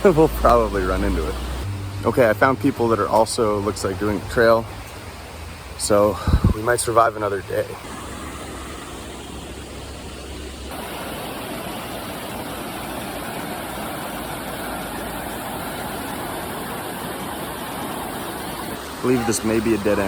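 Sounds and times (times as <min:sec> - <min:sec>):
river flowing over boulders: 0:00.0 - 0:20.0.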